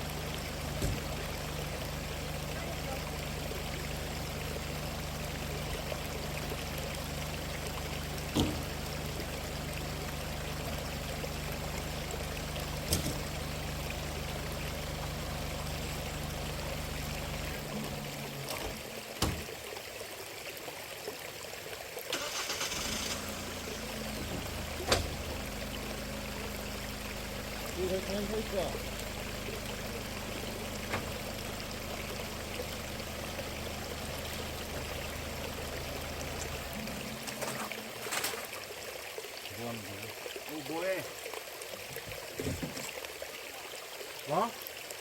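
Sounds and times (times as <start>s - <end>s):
vehicle engine idling: 0.0s - 19.5s, 22.2s - 38.7s
stream running: 0.0s - 45.0s.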